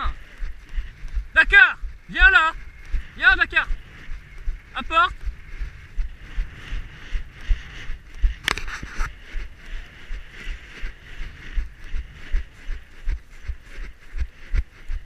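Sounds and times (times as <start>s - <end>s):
footsteps through wet grass: 0.0s - 15.0s
grass rustling: 0.0s - 15.0s.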